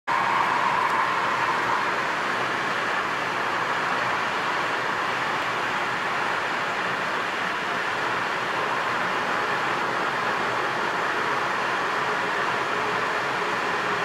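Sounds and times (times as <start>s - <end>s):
road and tyre noise in tunnel: 0.1s - 14.0s.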